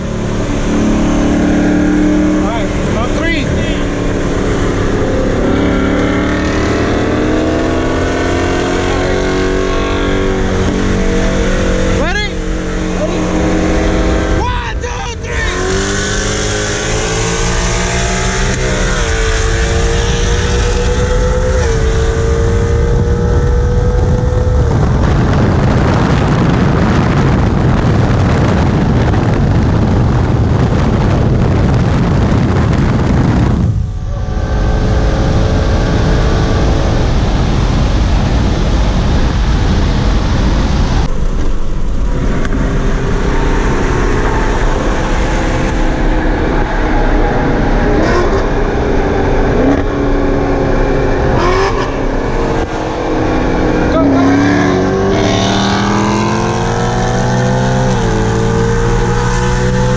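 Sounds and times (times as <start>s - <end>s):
car engine at full throttle: 0.0s - 59.9s
wind and road noise: 0.0s - 59.9s.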